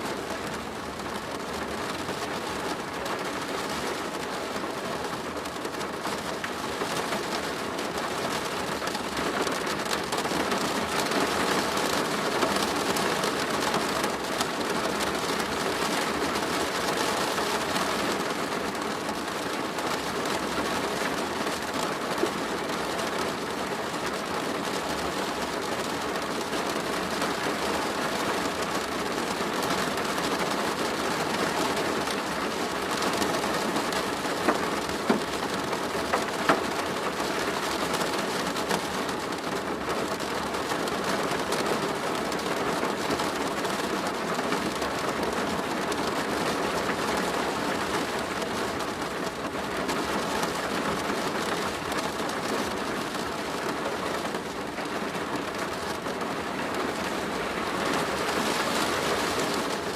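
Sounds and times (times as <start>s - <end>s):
rain drumming on plastic roof: 0.0s - 59.9s.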